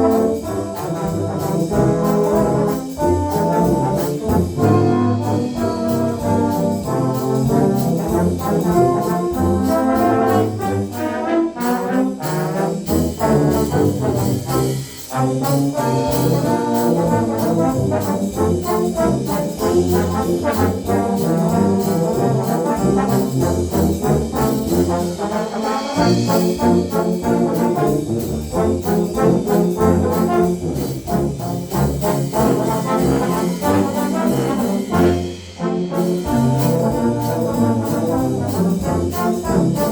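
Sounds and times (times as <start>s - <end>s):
brass ensemble playing jazz march: 0.0s - 39.9s.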